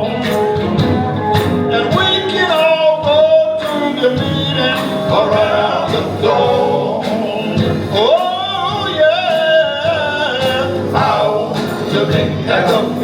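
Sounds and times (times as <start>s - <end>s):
male gospel quartet singing: 0.0s - 13.0s
steady beat: 0.0s - 13.0s.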